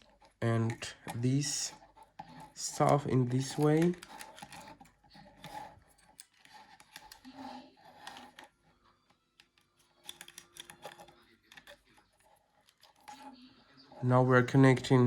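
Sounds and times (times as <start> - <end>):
small plastic parts clicking: 0.0 - 8.6, 9.3 - 13.3.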